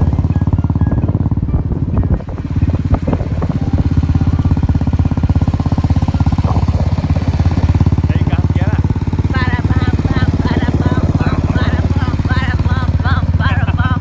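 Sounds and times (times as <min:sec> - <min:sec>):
vehicle engine pulsing: 0:00.0 - 0:14.0.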